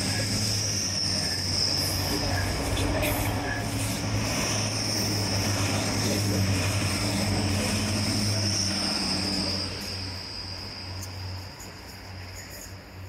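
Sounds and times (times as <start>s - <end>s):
diesel train engine drone: 0.0s - 13.0s
high-pitched whine: 0.0s - 13.0s.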